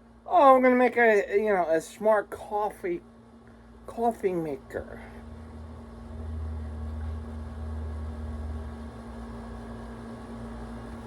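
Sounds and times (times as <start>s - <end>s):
constant hum: 0.0s - 11.0s
low steady rumble: 0.0s - 11.0s.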